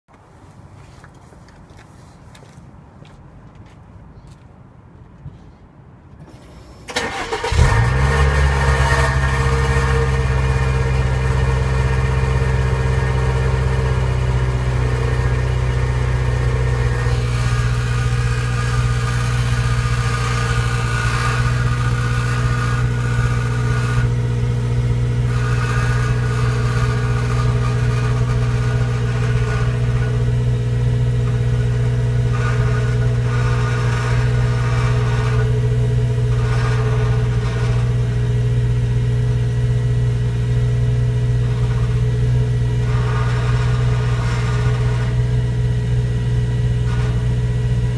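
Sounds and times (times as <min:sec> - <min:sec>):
car engine cranking and starting: 0:06.2 - 0:47.9
car engine idling: 0:06.9 - 0:47.9.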